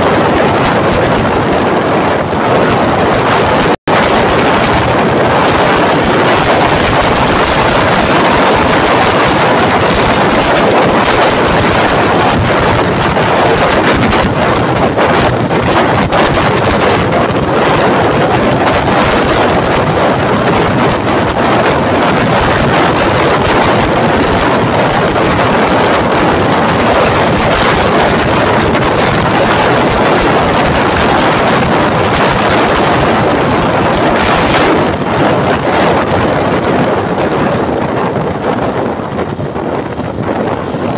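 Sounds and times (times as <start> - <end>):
wind rushing on microphone: 0.0 - 40.9.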